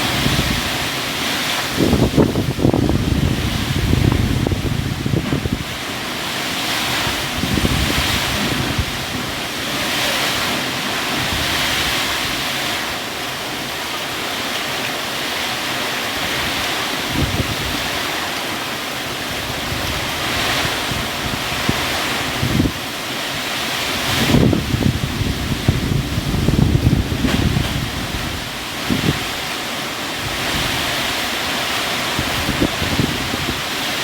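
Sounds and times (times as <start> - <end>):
wind gusts rumbling on microphone: 0.0 - 13.9, 16.1 - 18.4, 19.0 - 34.0
heavy rain hissing: 0.0 - 34.0.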